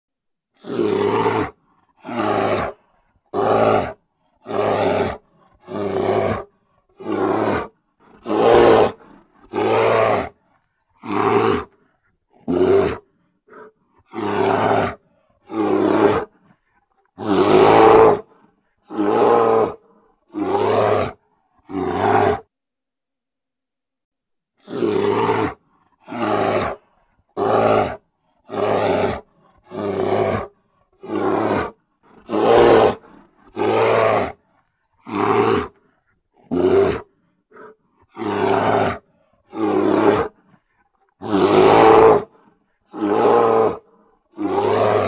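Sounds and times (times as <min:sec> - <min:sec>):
bear roaring: 0:00.6 - 0:22.5, 0:24.6 - 0:45.0.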